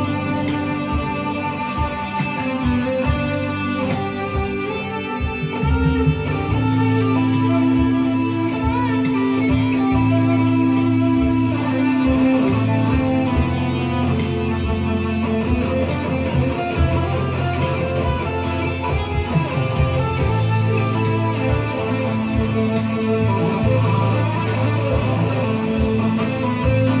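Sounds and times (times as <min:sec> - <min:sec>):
guitar chords and melody: 0:00.0 - 0:27.0
sustained bass notes: 0:00.0 - 0:27.0.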